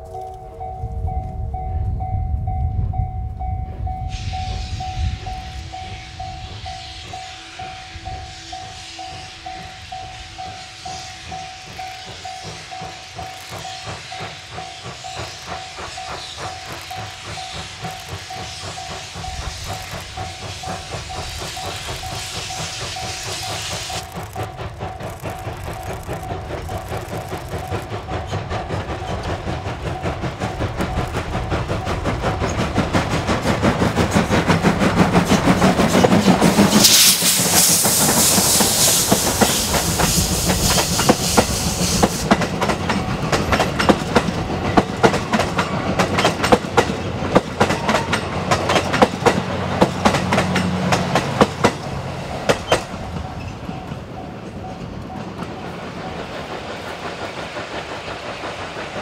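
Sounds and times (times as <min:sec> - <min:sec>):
steam locomotive passing: 0:00.0 - 0:59.0
train wheels clattering on rail joints: 0:00.0 - 0:59.0
loud steam hiss: 0:04.0 - 0:54.0, 0:55.5 - 0:59.0.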